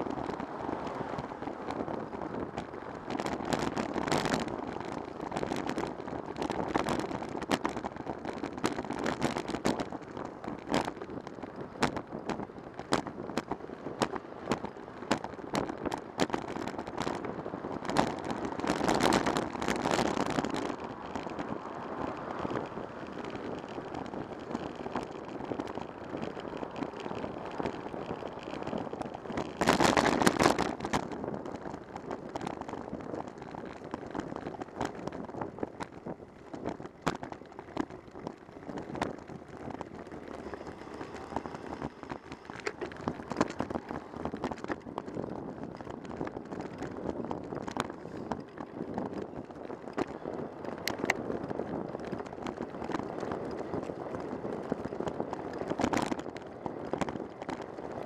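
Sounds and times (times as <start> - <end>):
bicycle clicks and rattles: 0.0 - 58.0
road and wind noise: 0.0 - 58.0.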